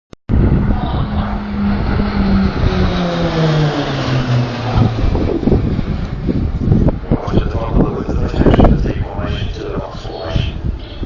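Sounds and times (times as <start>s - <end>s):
propeller plane flying past: 0.3s - 11.0s.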